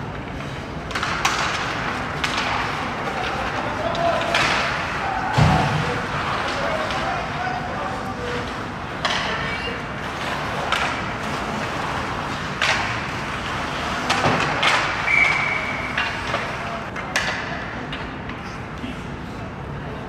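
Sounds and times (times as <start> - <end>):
skate blades scraping ice: 0.2 - 16.7
hockey sticks and pucks cracking: 0.2 - 18.4.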